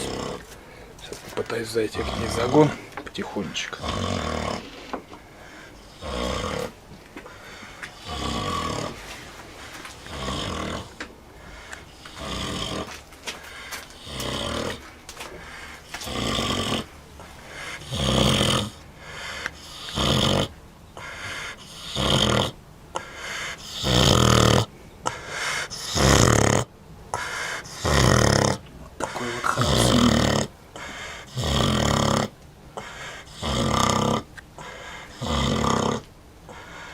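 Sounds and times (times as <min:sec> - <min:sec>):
pig snoring: 0:00.0 - 0:36.9.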